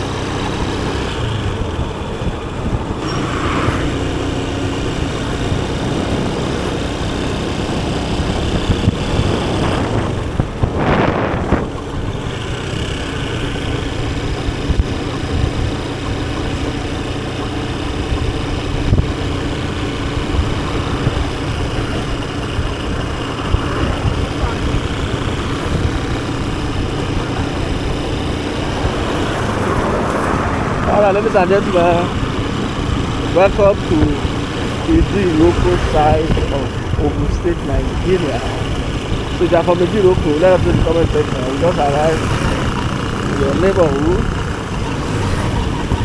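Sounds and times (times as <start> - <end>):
motorcycle engine running: 0.0 - 46.0
road and wind noise: 0.0 - 46.0
vehicle passing by: 0.0 - 46.0.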